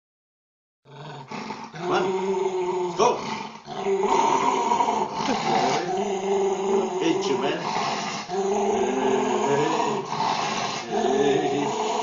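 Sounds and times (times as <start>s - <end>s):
dog growling: 0.9s - 12.0s.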